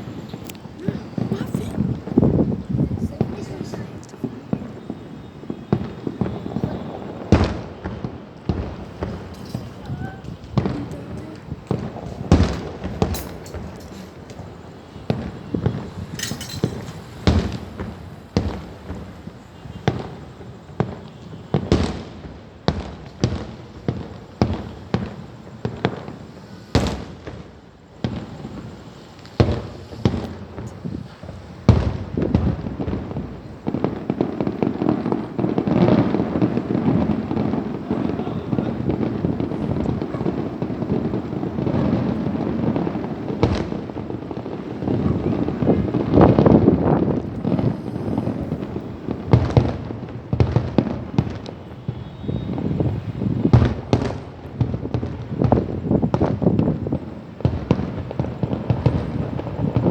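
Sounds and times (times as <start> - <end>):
fireworks bangs: 0.0 - 59.9
fireworks rapid crackling: 0.0 - 59.9.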